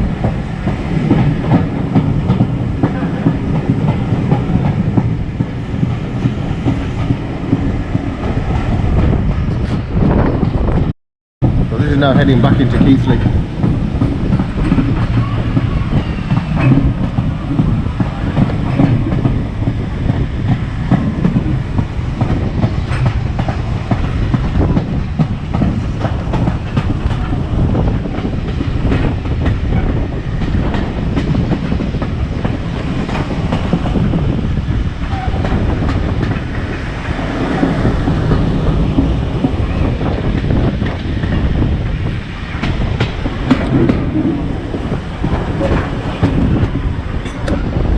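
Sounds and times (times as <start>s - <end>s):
train carriages rumbling: 0.0s - 47.9s.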